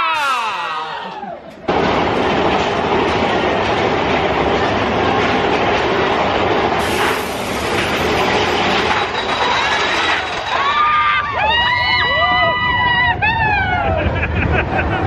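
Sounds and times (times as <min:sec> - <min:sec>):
roller coaster wheels clattering: 0:00.2 - 0:15.0.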